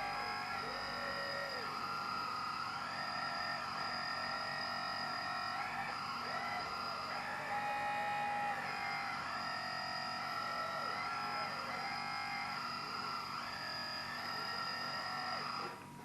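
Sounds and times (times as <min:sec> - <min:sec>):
hydraulic pump and motors whining: 0:00.0 - 0:16.0.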